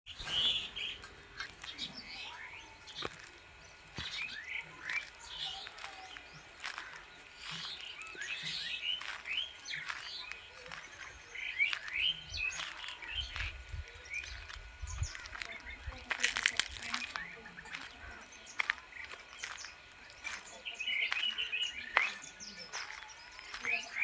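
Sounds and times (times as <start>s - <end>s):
birds chirping: 0.1s - 24.0s.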